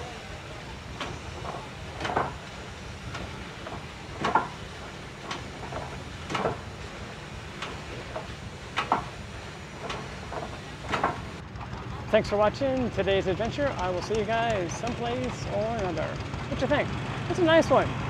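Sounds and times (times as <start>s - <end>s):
steam engine exhaust chuffing: 0.0s - 18.0s.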